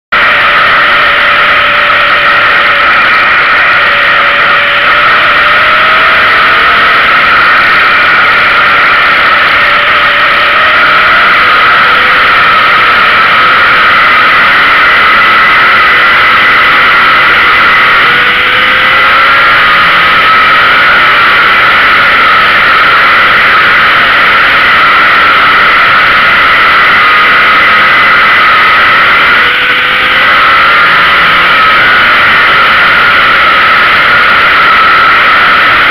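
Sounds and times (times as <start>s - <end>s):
race car engine running hard: 0.1s - 35.9s.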